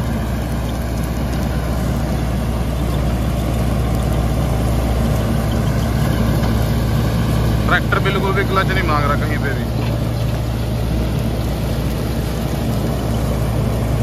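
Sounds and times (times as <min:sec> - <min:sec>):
straw reaper droning: 0:00.0 - 0:14.0
straw rushing noise: 0:00.0 - 0:14.0
tractor engine: 0:00.0 - 0:14.0.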